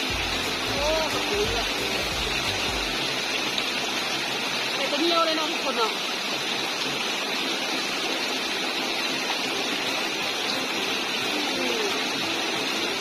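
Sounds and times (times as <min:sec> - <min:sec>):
shallow stream flowing: 0:00.0 - 0:13.0.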